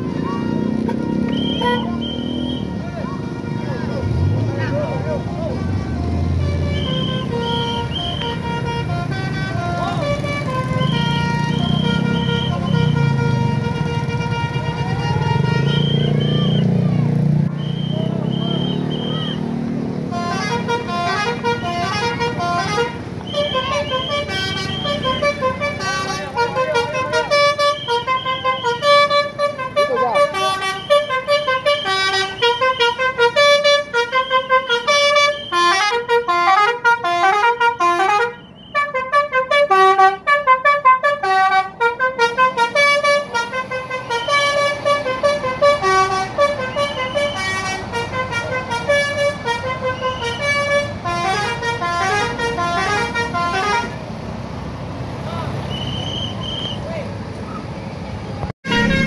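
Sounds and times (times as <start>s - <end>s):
musical air horns playing tunes: 0.0s - 16.6s, 17.6s - 54.0s, 58.6s - 59.0s.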